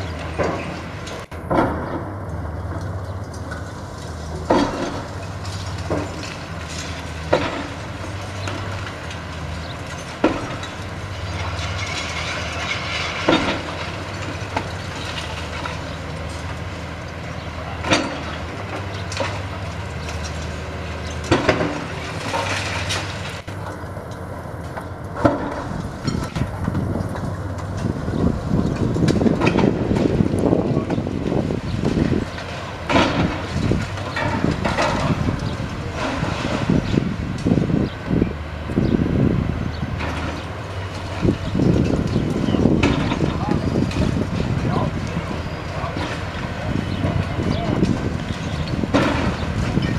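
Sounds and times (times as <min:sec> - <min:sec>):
excavator engine humming: 0:00.0 - 0:49.9
concrete and metal cracking: 0:02.8 - 0:37.9, 0:40.0 - 0:49.9.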